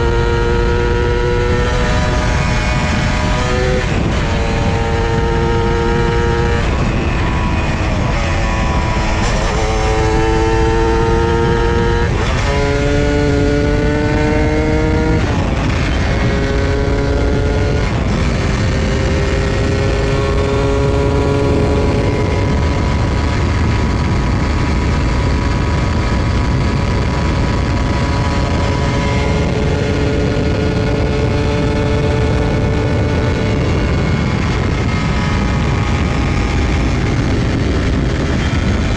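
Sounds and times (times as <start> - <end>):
low wind rumble: 0.0 - 38.9
motorcycle engine changing gears: 0.0 - 38.9.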